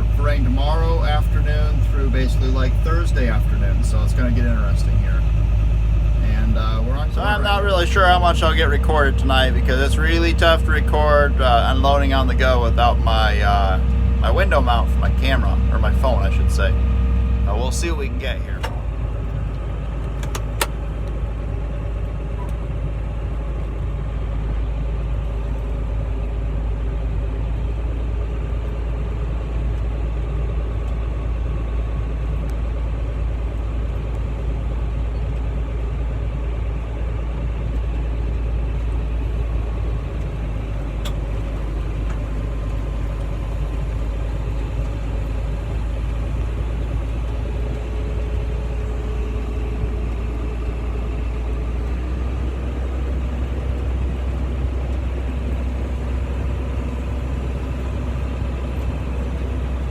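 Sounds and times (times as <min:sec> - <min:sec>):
tractor engine drone: 0:00.0 - 0:59.9.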